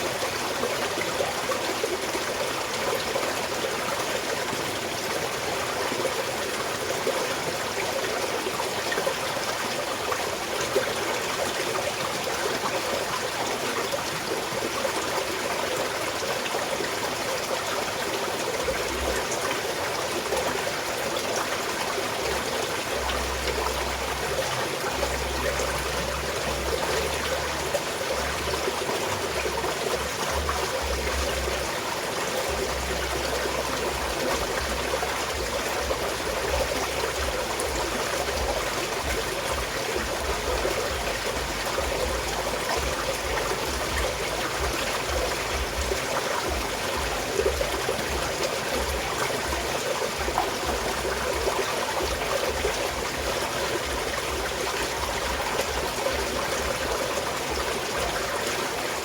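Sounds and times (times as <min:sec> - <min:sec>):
small stream babbling: 0:00.0 - 0:59.0.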